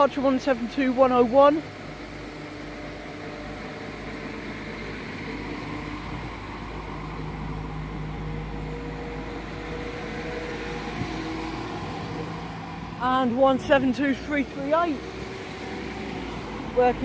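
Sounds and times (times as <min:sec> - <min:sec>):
train diesel engine drone: 0:00.0 - 0:17.0.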